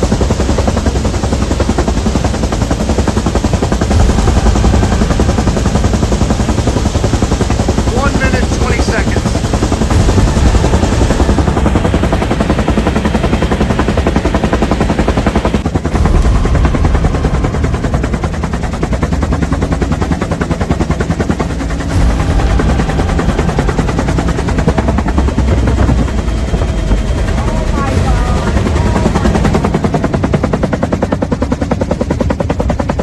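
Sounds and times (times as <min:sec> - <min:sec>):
helicopter engine drone: 0:00.0 - 0:33.0
helicopter rotor thumping: 0:00.0 - 0:33.0.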